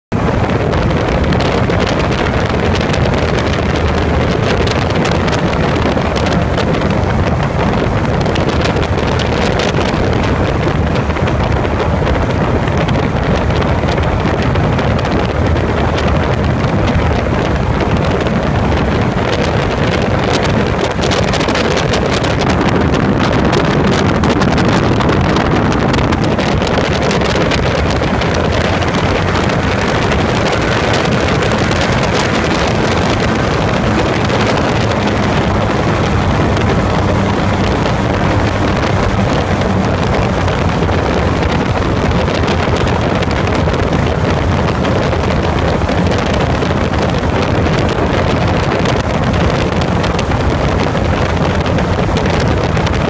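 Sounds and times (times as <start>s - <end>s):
aircraft engine drone: 0.1s - 53.0s
wind buffeting microphone: 0.1s - 53.0s.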